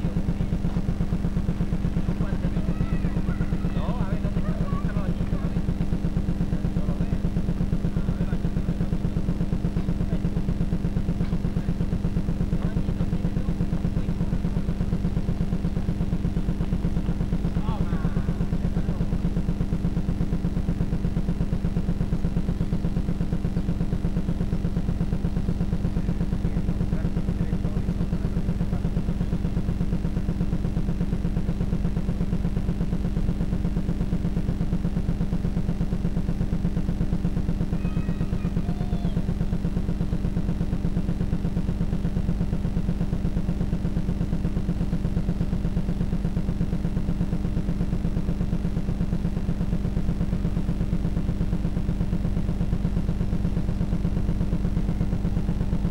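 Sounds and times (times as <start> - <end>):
pulsing low machine hum: 0.0 - 55.9.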